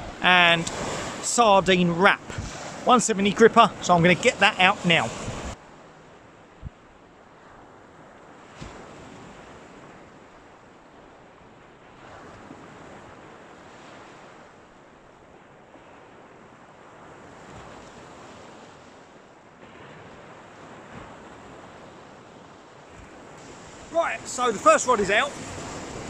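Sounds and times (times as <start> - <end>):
waves washing up a shingle beach: 0.0 - 26.0.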